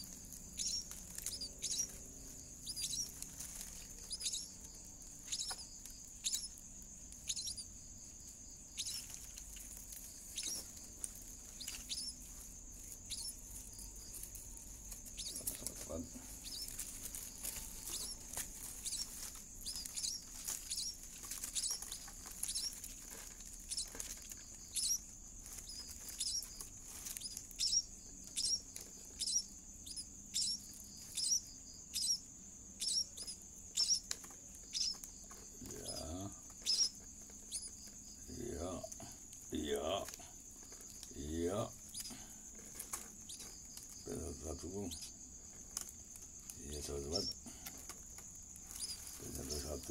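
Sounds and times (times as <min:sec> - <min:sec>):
nestling birds peeping: 0:00.0 - 0:49.9.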